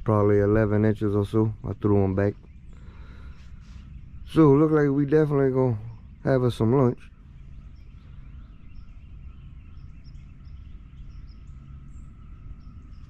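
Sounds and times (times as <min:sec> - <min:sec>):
faint steady tone: 0:00.0 - 0:13.0
low steady rumble: 0:00.0 - 0:13.0
small birds chirping: 0:00.0 - 0:13.0.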